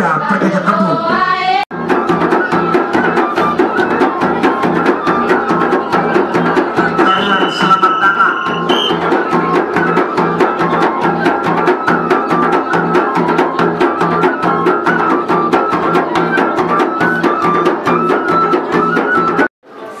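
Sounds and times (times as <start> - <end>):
frame drums and percussion: 1.0 - 19.5
flute melody: 1.8 - 19.5.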